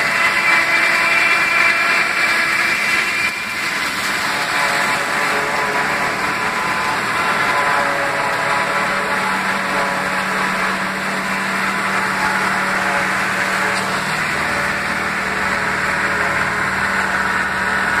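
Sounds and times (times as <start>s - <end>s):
forage harvester chopping stalks: 0.0s - 18.0s
tractor diesel engine running: 0.0s - 18.0s.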